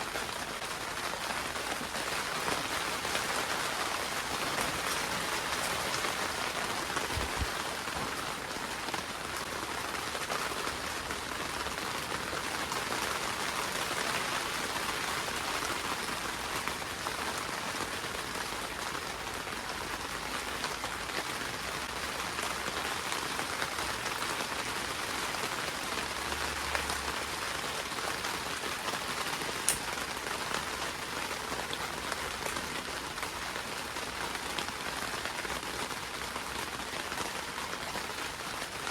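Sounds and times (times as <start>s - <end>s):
rain pattering on greenhouse roof: 0.0s - 38.9s.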